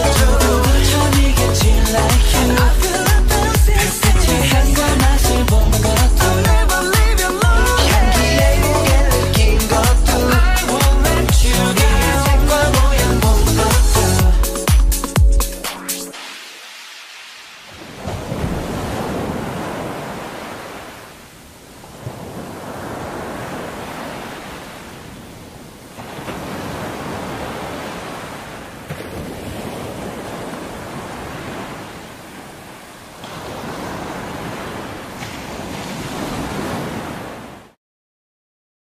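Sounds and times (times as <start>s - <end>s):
ocean surf washing onto shore: 0.0s - 13.0s, 15.6s - 37.8s.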